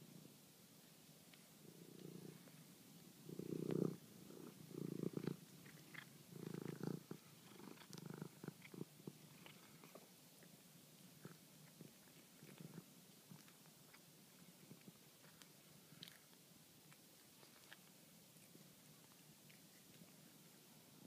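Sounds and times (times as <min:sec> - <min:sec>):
cat purring: 0:01.1 - 0:21.0.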